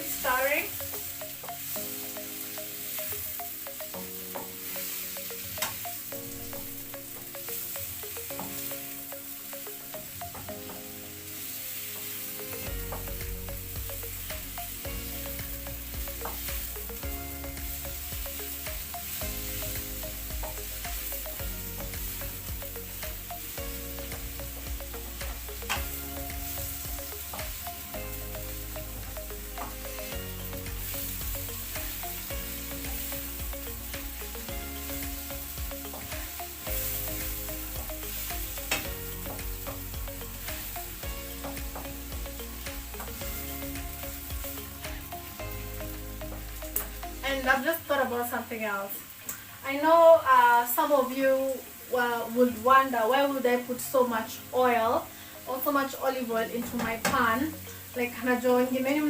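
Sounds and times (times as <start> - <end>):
mushrooms sizzling in a pan: 0.0 - 59.0.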